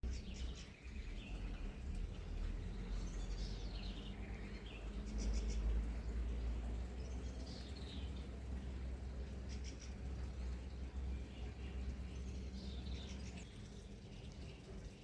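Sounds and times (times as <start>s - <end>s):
small birds twittering: 0.0s - 14.8s.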